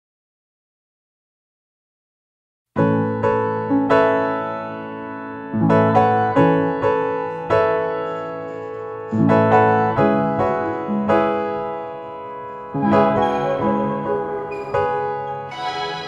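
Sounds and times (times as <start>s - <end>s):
piano chords ringing: 2.9s - 16.0s.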